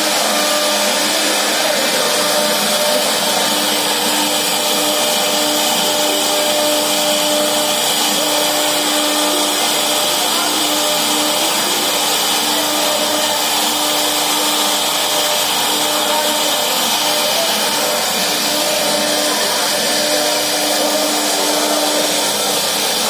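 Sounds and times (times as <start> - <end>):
router spindle cutting wood: 0.0 - 23.0.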